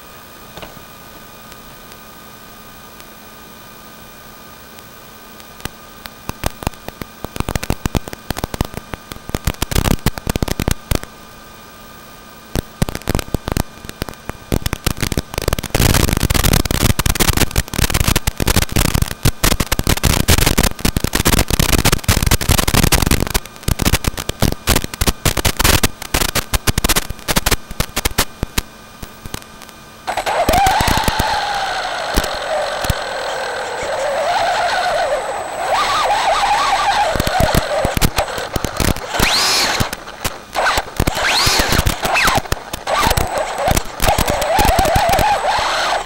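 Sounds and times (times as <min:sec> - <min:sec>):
crackling static: 0:00.0 - 0:46.0
steady electrical buzz: 0:00.0 - 0:46.0.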